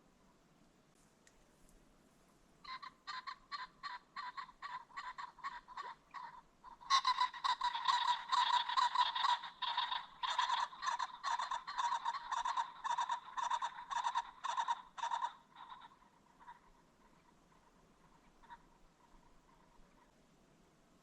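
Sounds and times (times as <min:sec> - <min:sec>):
pheasant clucking calls: 0:02.6 - 0:20.2.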